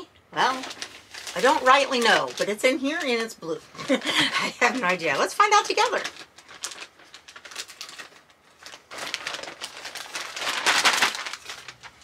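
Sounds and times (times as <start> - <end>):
plastic mailer crinkling: 0.4 - 12.0.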